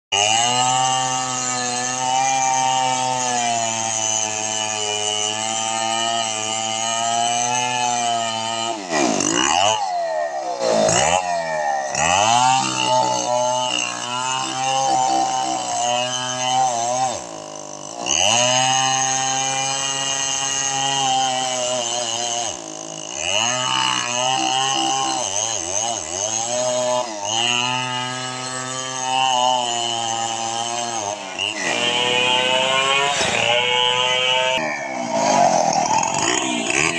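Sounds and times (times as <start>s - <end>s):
chainsaw engine running: 0.1s - 36.9s.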